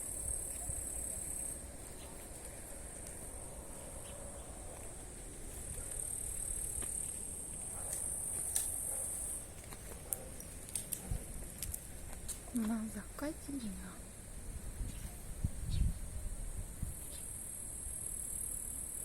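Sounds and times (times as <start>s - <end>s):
insects trilling: 0.0s - 10.9s, 11.7s - 19.0s.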